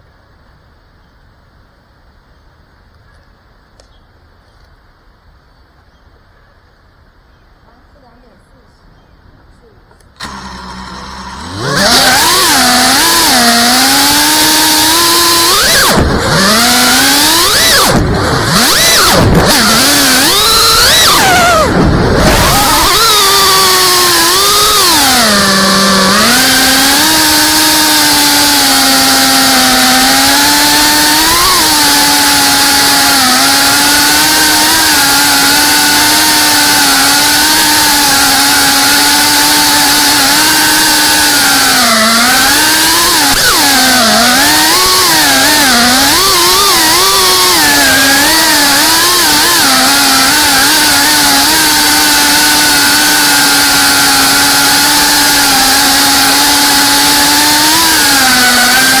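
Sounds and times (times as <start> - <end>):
drone motors buzzing whine: 10.0 - 59.0.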